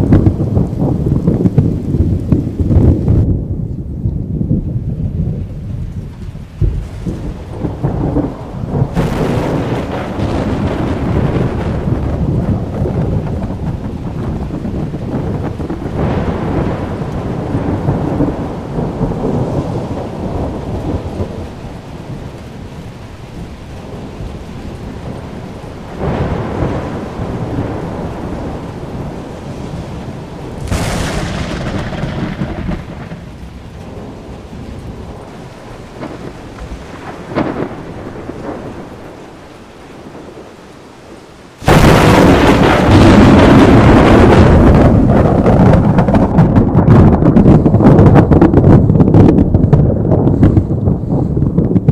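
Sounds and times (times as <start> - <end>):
steady hiss of rain: 0.0 - 51.9
thunder rolling and rumbling: 0.0 - 51.9
loud thunder blast: 6.4 - 22.3, 23.9 - 40.5, 41.6 - 51.9.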